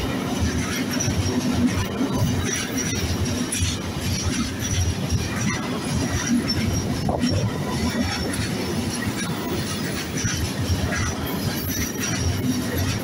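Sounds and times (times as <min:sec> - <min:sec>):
train wheels rumbling on rails: 0:00.0 - 0:13.0
wheel squeals: 0:02.1 - 0:13.0.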